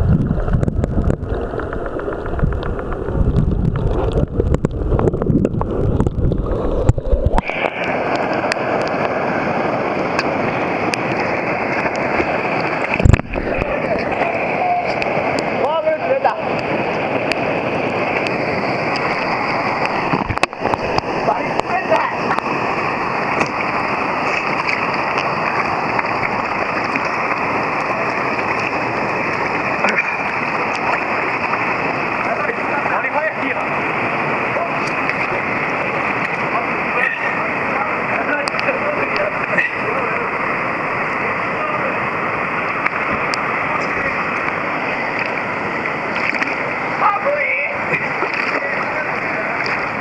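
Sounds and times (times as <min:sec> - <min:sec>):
rushing river water: 0:00.0 - 0:50.0
steady even hiss: 0:06.6 - 0:48.0.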